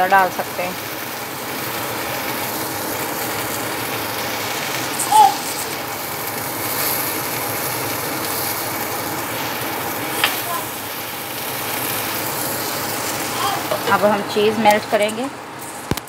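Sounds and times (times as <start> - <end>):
meat sizzling in oil: 0.0 - 15.9.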